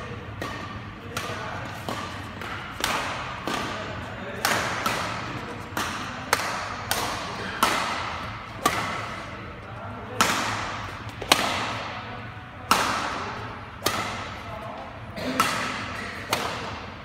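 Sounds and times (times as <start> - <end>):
rackets hitting shuttlecock: 0.0 - 14.5, 15.4 - 17.0.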